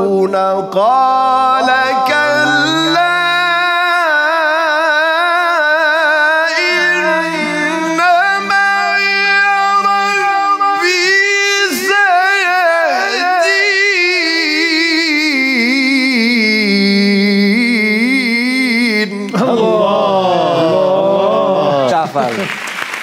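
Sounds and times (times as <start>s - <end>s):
man chanting melodically: 0.0s - 22.5s.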